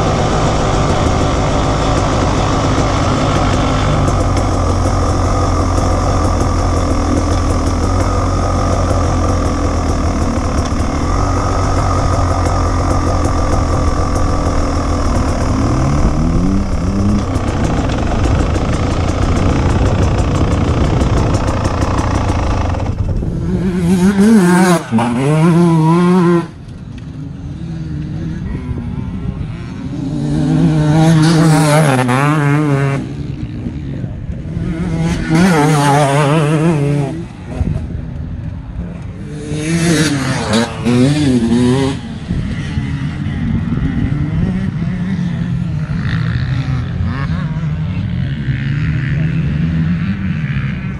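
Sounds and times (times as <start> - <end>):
motorcycle engine revving: 0.0 - 50.9
motorcycle engine running: 0.0 - 50.9.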